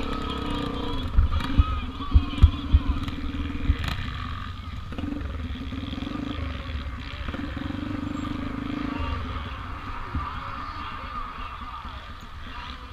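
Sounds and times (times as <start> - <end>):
pit bike engine running: 0.0 - 12.9.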